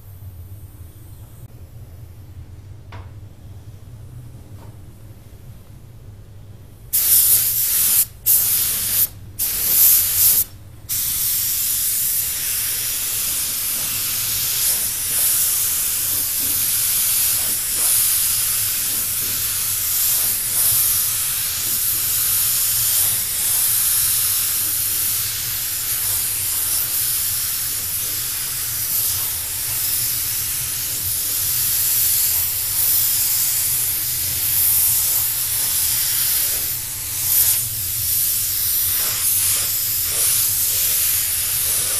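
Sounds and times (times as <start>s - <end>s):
spray gun hissing: 6.9s - 41.9s.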